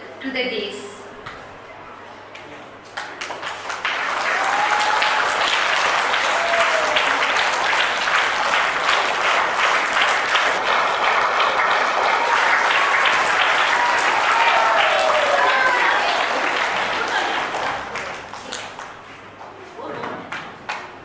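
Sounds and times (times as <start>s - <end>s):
children clapping: 2.9s - 19.1s, 20.3s - 21.0s.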